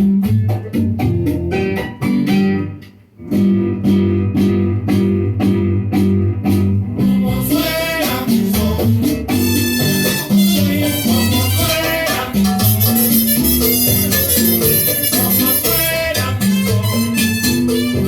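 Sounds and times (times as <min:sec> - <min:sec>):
fuller ensemble music: 0:00.0 - 0:18.0
plucked-string and bass music: 0:00.0 - 0:18.0.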